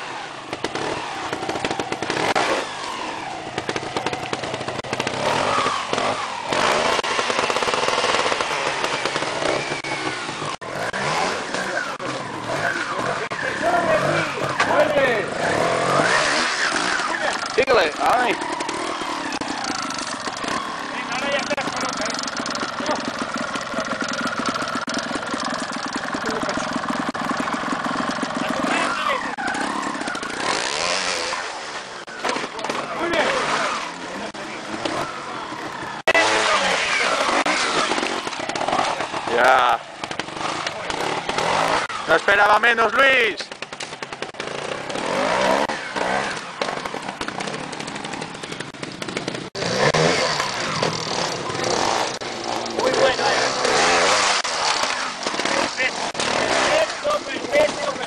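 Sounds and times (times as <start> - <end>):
motorcycle engine idling: 0.0 - 16.0, 16.6 - 36.1, 37.2 - 53.9.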